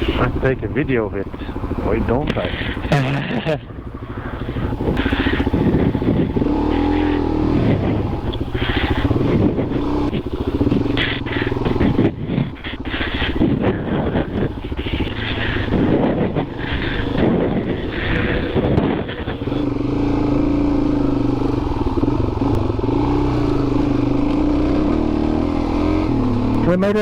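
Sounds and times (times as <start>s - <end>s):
motorcycle engine on dirt trail: 0.0s - 27.0s.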